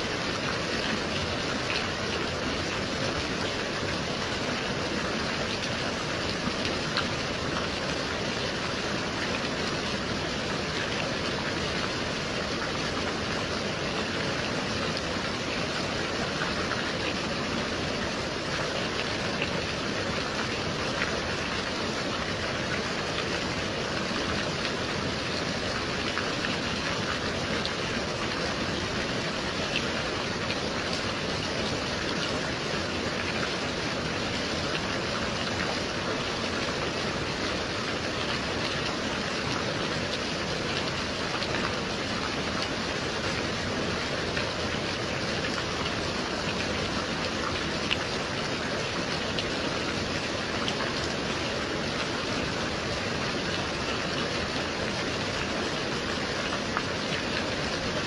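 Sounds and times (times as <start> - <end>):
gentle rain hiss: 0.0 - 58.0.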